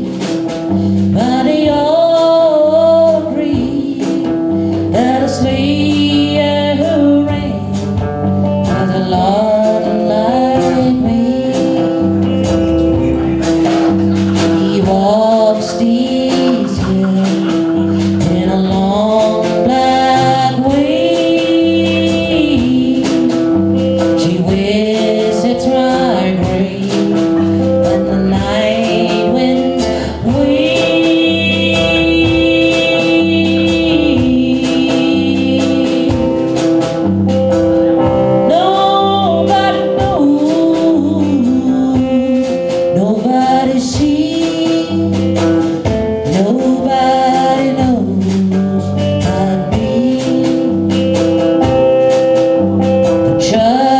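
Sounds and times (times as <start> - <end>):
guitar: 0.0 - 53.9
person singing: 0.0 - 53.9
walking bass line: 0.0 - 53.9
drum beat: 10.5 - 53.7.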